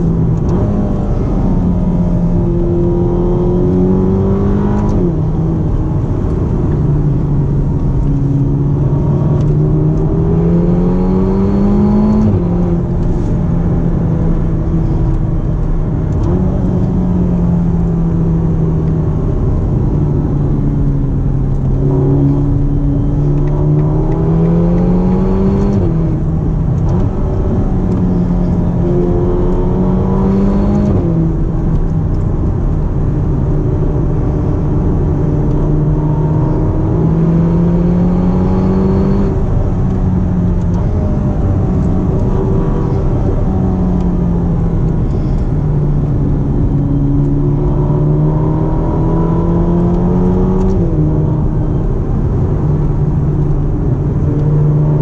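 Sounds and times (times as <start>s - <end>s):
car engine accelerating through gears: 0.0s - 55.0s
road and tyre noise: 0.0s - 55.0s.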